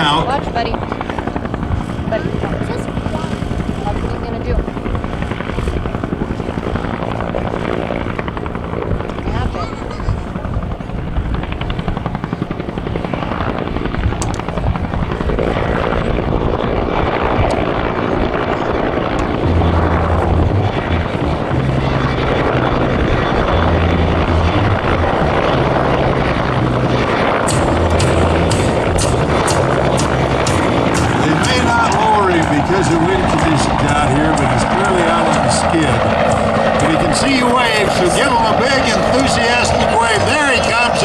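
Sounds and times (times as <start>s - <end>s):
helicopter rotor beating: 0.0s - 41.0s.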